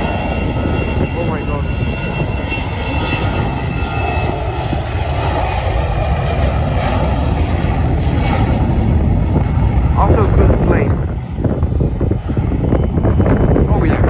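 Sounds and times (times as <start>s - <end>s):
aircraft engines running: 0.0s - 14.0s
wind rumble on microphone: 0.0s - 14.0s.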